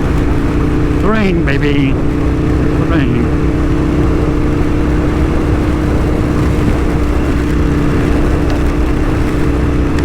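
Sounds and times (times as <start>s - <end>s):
wind and rain on microphone: 0.0s - 1.3s, 1.9s - 10.0s
motorcycle engine running: 0.0s - 10.0s.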